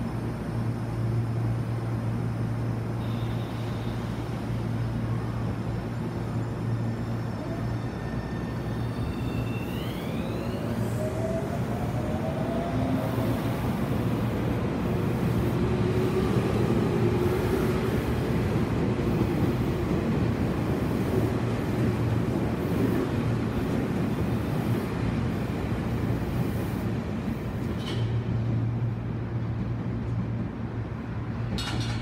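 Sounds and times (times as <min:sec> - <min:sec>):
low rumble of train wheels: 0:00.0 - 0:32.0.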